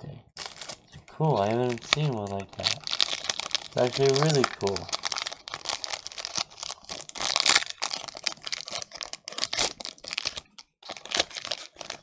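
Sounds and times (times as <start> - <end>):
foil wrapper tearing and crinkling: 0.4 - 12.0.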